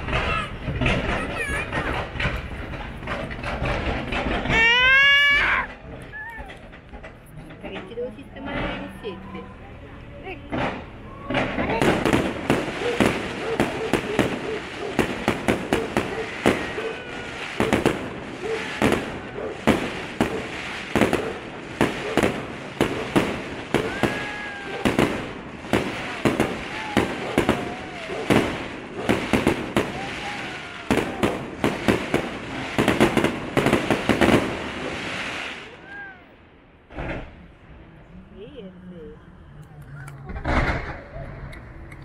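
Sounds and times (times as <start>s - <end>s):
fireworks bursting with crackles: 0.0s - 7.2s, 10.4s - 37.8s, 39.6s - 42.0s.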